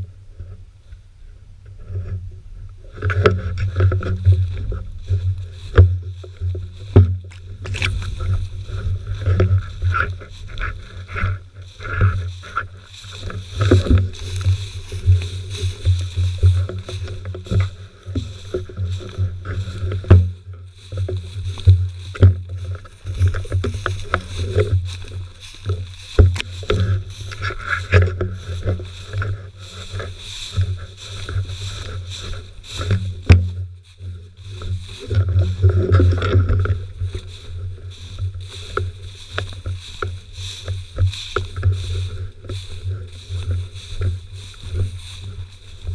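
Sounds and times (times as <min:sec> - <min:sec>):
low camera rumble: 0:00.0 - 0:45.9
footsteps through dry grass: 0:02.8 - 0:45.9.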